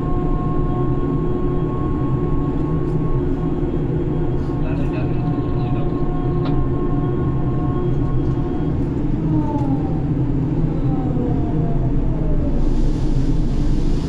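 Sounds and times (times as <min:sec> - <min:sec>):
crane machinery low drone: 0:00.0 - 0:14.0.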